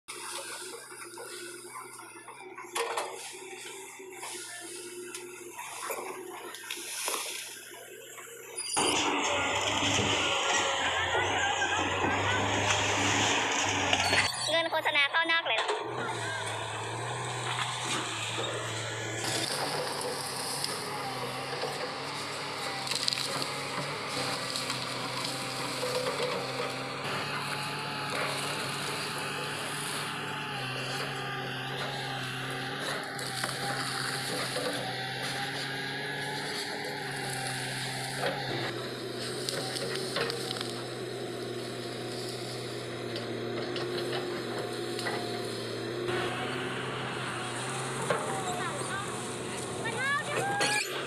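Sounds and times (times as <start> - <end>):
excavator diesel engine running: 0.1 - 51.0.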